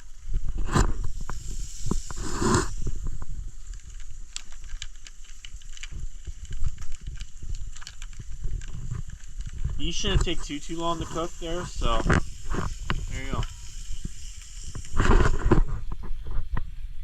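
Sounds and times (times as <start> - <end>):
food sizzling in a pan: 0.0 - 6.8, 7.4 - 16.3
wind rumble on microphone: 0.0 - 17.0.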